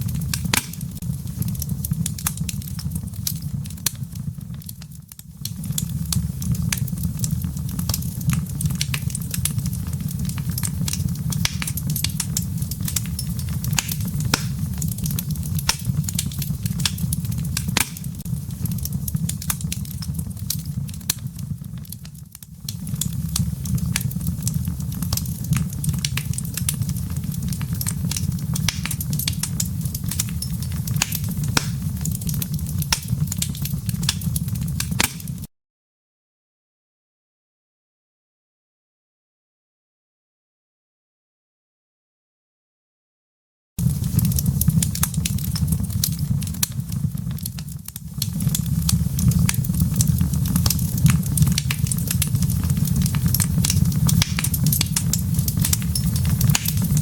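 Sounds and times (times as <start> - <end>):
fireplace embers crackling: 0.0 - 35.5, 43.8 - 57.0
low fire rumble: 0.0 - 35.5, 43.8 - 57.0.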